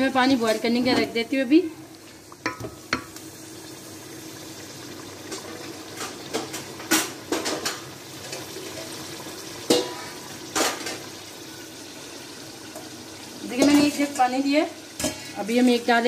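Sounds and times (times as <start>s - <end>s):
food hissing in a pot: 0.1s - 16.0s.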